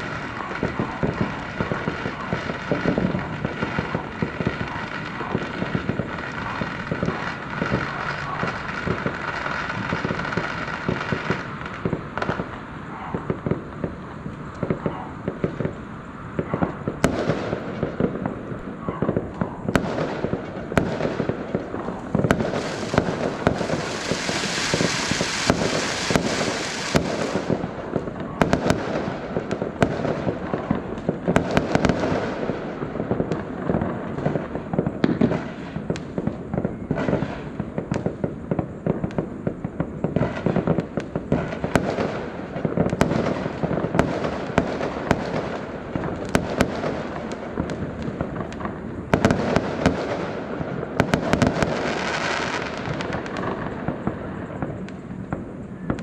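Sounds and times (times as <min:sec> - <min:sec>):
fireworks crackling: 0:00.0 - 0:56.0
sharp firework cracks: 0:00.0 - 0:56.0.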